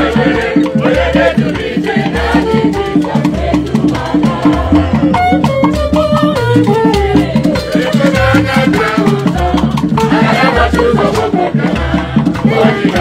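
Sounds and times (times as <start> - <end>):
band music with bass line: 0.0 - 13.0
shaker and percussion: 0.0 - 13.0.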